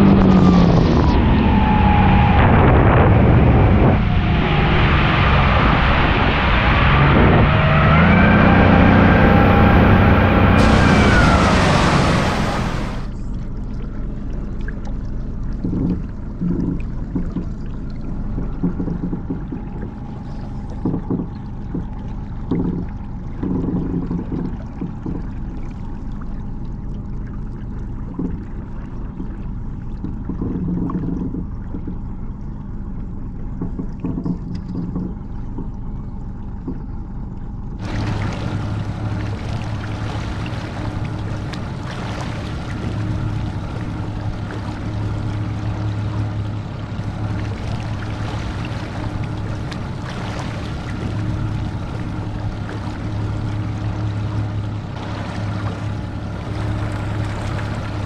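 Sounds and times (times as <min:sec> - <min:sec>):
water rushing: 0:00.0 - 0:31.9, 0:37.8 - 0:58.0
outboard motor running: 0:00.0 - 0:58.0.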